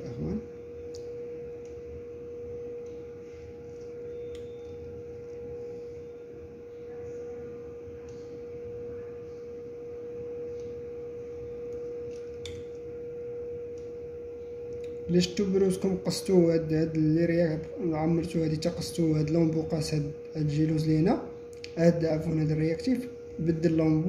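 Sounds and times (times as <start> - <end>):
steady tonal hum: 0.0 - 24.0.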